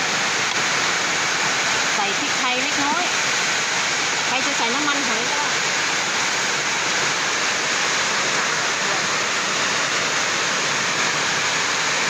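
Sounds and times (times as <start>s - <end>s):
heavy rain rushing: 0.0s - 12.0s.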